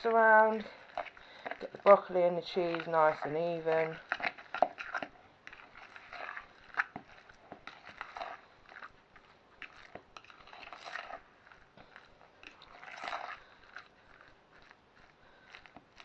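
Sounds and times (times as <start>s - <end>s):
fork scraping bowl: 0.0s - 16.0s
soft wet stirring: 0.0s - 16.0s.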